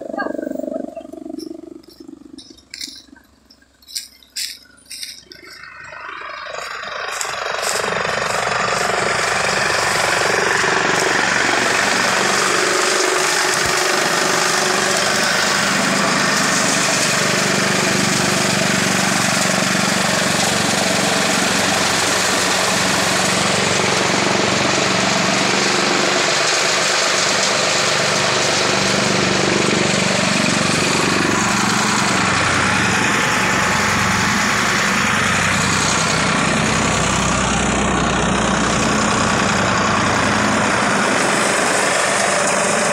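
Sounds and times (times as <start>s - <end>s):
tractor diesel engine running: 0.0s - 42.9s
chaff cutter chopping stalks: 3.8s - 37.1s, 38.8s - 42.9s.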